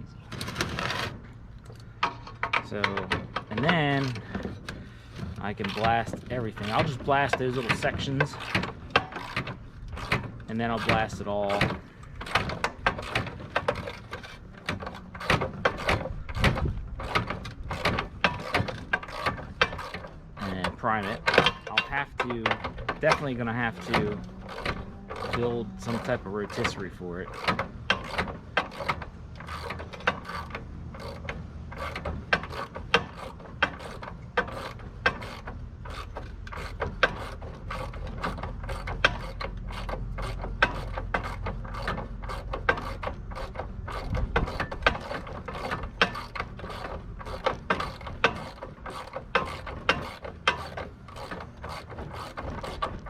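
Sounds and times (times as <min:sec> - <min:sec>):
ratchet wrench clicking: 0:01.7 - 0:53.0.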